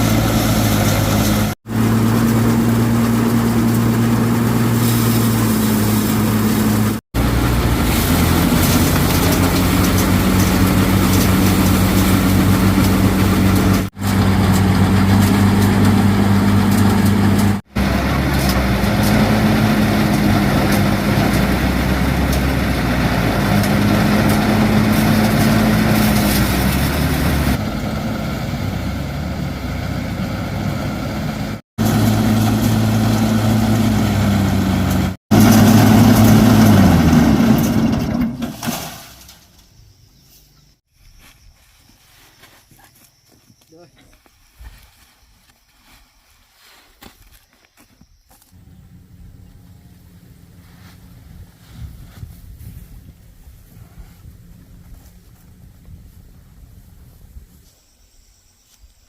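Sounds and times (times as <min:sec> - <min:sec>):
engine running steadily: 0:00.0 - 0:38.7, 0:48.5 - 0:57.3.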